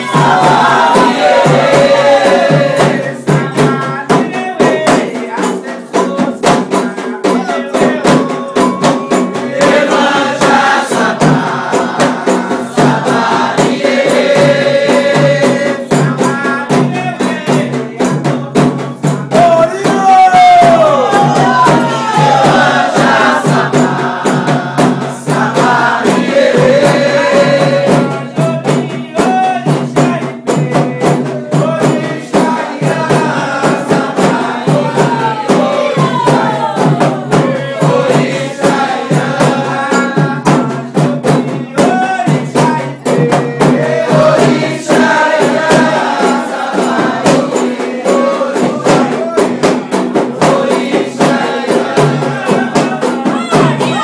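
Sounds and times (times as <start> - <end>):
fast percussion with rattles: 0.0 - 54.0
voices singing a chant: 0.0 - 54.0.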